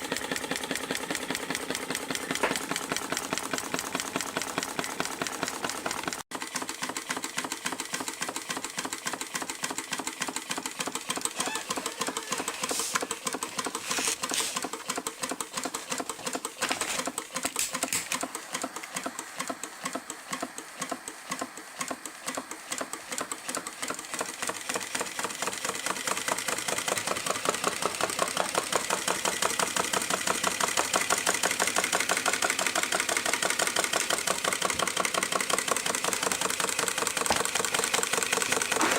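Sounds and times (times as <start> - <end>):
stirling engine clicking rhythmically: 0.0 - 13.8, 14.6 - 38.8.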